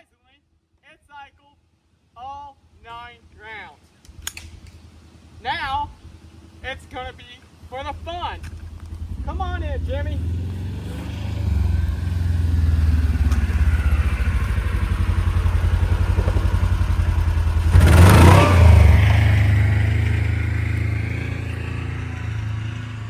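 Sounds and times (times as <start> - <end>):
vehicle engine running: 4.5 - 23.0.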